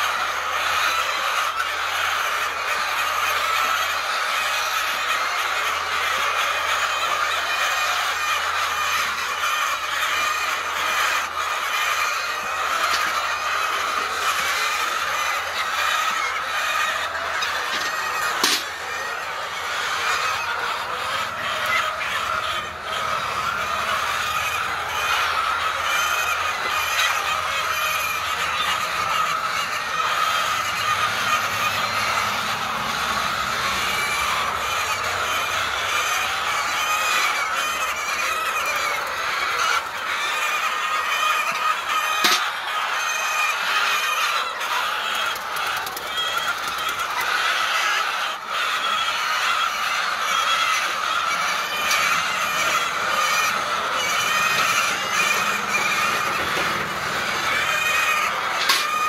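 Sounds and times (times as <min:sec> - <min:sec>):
flock of birds calling: 0:00.0 - 0:59.0.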